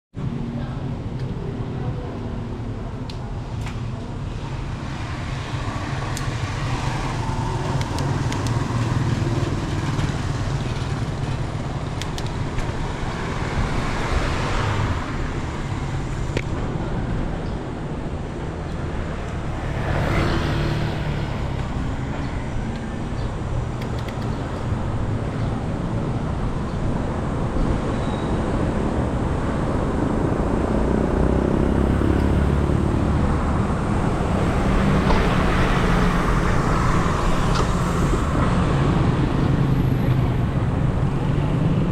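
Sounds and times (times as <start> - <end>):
road traffic rumble: 0.2 - 41.9
vehicles passing close: 0.2 - 41.9.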